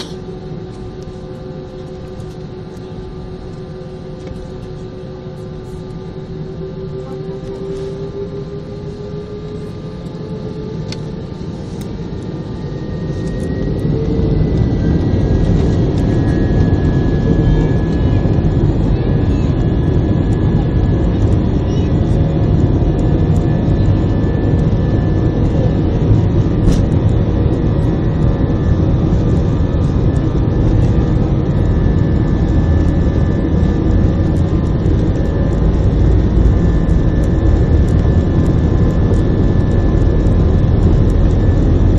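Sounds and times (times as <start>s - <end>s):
jet engines spooling up: 0.0s - 41.9s.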